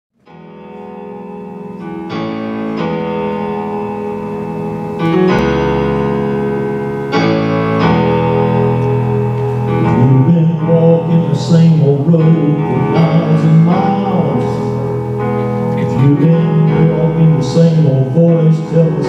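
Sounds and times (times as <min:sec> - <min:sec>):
electric keyboard piano chords: 0:00.2 - 0:19.0.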